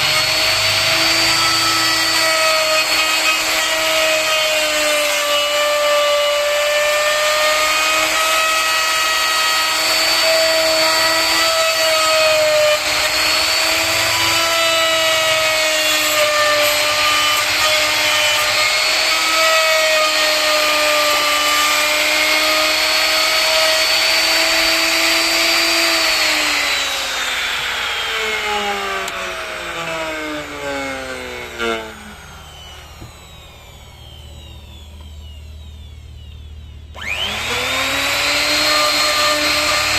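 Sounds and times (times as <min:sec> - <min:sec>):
power tool motor whine: 0:00.0 - 0:39.9.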